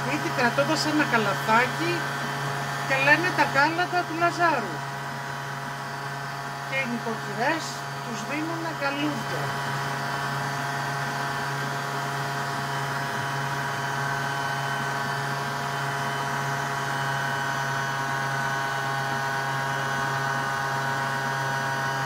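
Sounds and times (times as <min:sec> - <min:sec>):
stand mixer motor humming: 0:00.0 - 0:22.0.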